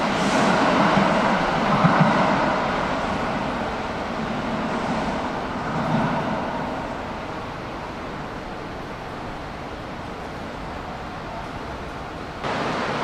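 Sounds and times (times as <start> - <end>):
electric train running into tunnel: 0.0 - 13.0.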